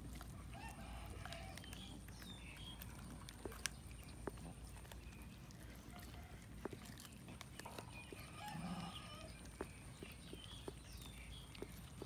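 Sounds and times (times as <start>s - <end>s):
cats chewing and tearing meat: 0.0s - 12.0s.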